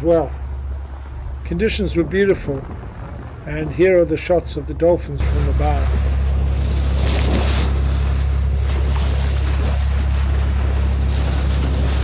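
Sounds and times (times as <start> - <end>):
diesel engine drone: 0.0 - 12.0
water rushing along hull: 0.0 - 12.0
wind on microphone: 0.0 - 12.0.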